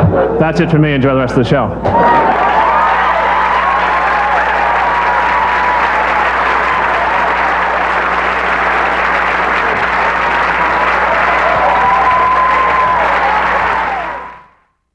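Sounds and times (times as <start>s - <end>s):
audience applauding: 1.9s - 14.6s.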